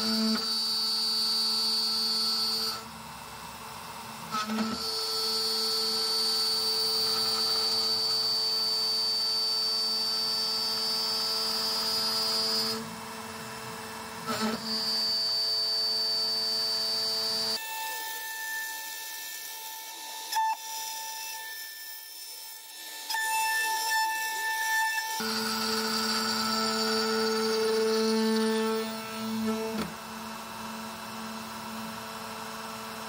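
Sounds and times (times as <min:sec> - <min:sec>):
cnc spindle whine cutting metal: 0:00.0 - 0:33.0.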